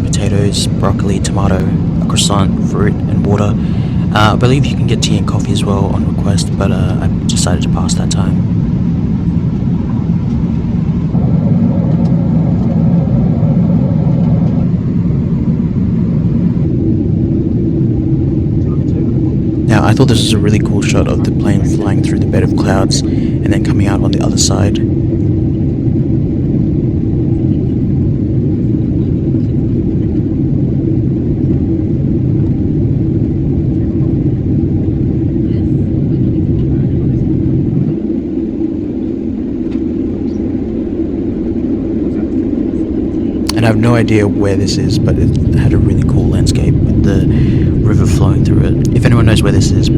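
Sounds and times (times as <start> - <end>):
aircraft cabin engine rumble: 0.0 - 49.9
faint steady hum: 0.0 - 49.9.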